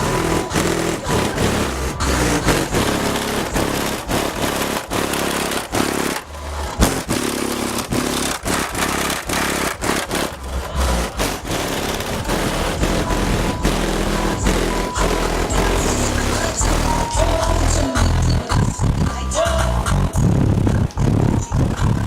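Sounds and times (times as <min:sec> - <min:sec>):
loud bass-heavy music: 0:00.0 - 0:22.0.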